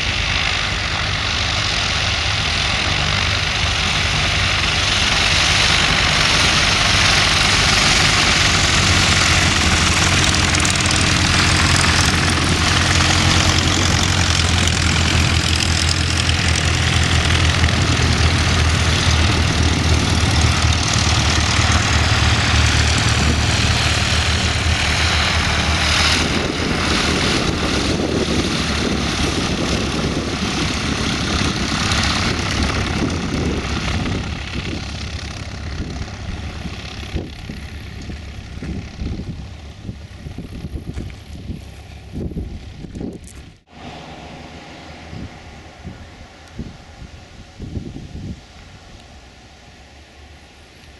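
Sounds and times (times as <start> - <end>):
propeller plane engines taxiing: 0.0 - 50.9.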